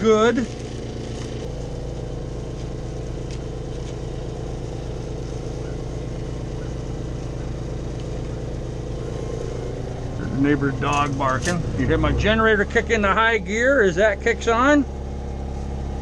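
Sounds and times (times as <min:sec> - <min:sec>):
generator engine humming: 0:00.0 - 0:16.0.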